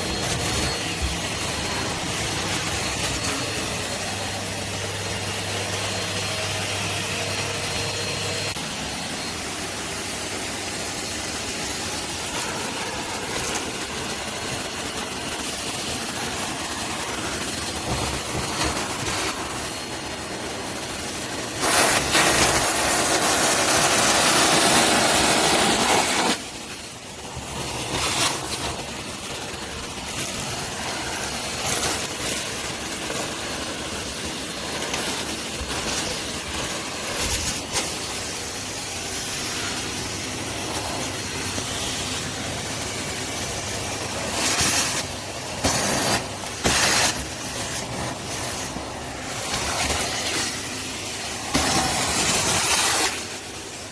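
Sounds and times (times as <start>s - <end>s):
loud hiss: 0.0s - 53.9s
vacuum cleaner running: 0.0s - 53.9s.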